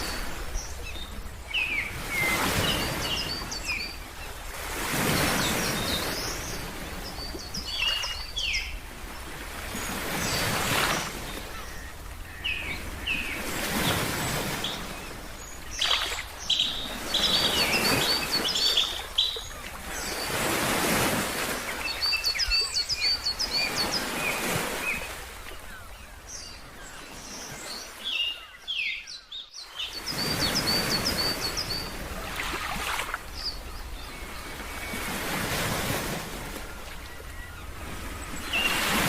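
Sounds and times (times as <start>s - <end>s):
ocean surf washing: 0.0s - 25.7s, 30.0s - 39.0s.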